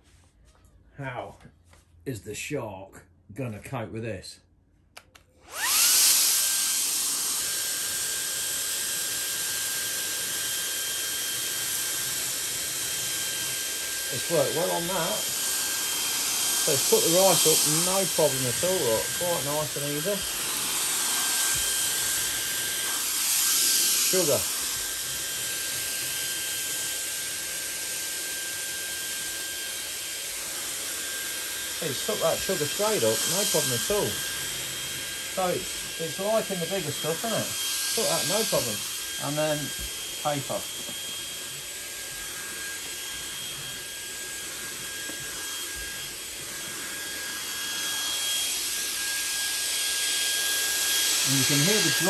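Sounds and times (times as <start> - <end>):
handheld vacuum motor whining: 5.4 - 52.0.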